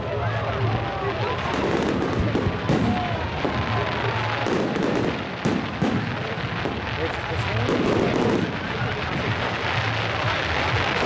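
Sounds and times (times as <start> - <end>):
fireworks crackling and popping: 0.0 - 11.0
music playing: 0.0 - 11.0.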